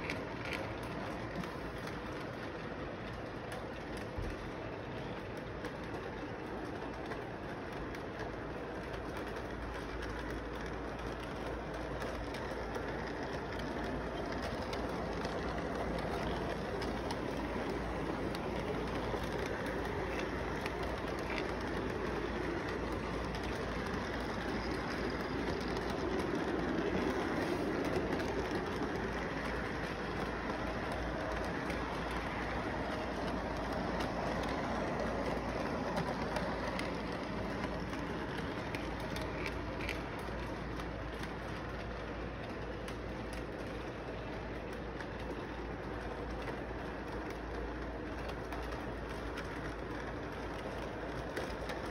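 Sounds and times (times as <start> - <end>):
model train rumbling on track: 0.0 - 51.9.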